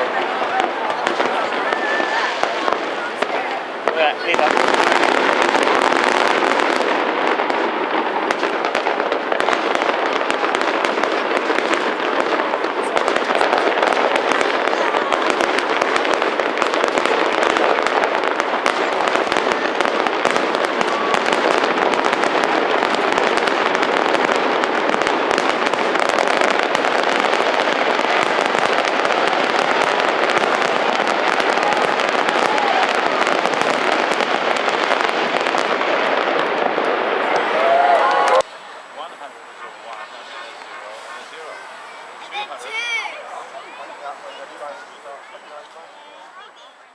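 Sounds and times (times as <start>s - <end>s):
fireworks crackling and popping: 0.0s - 46.9s.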